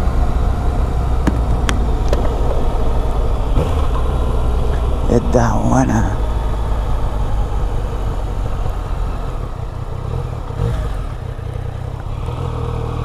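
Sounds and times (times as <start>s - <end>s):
motorcycle engine at low revs: 0.0s - 13.0s
road and wind noise: 0.0s - 13.0s.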